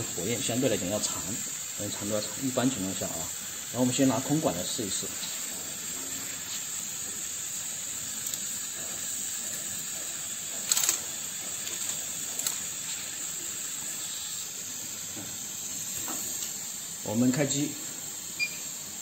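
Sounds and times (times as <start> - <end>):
burner flames hissing: 0.0 - 19.0.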